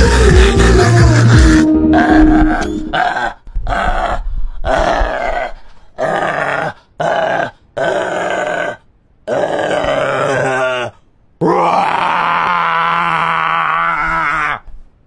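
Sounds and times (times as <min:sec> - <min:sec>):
man wailing and groaning: 0:00.0 - 0:14.7.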